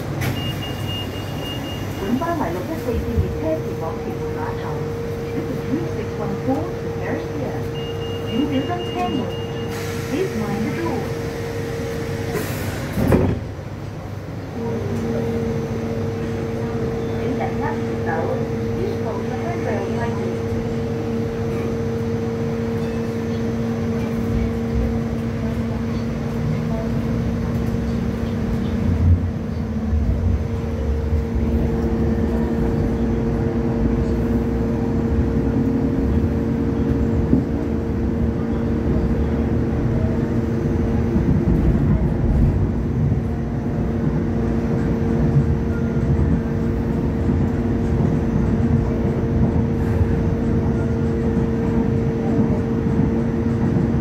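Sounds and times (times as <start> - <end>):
electric hum of light rail: 0.0 - 9.5, 10.1 - 54.0
railcar jolt: 0.0 - 54.0
wheels rumbling on track: 0.0 - 54.0.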